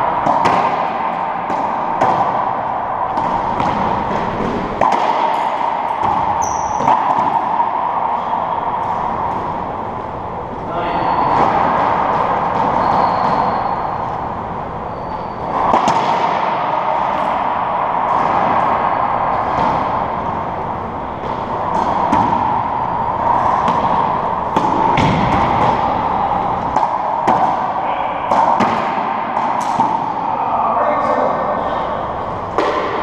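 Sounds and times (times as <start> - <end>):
racquetball hits and bounces: 0.0 - 30.4, 32.0 - 33.0
steady background hum: 0.0 - 33.0.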